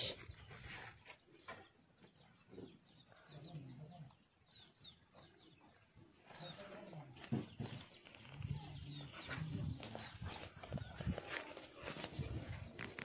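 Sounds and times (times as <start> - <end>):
faint small birds chirping: 0.0 - 13.0.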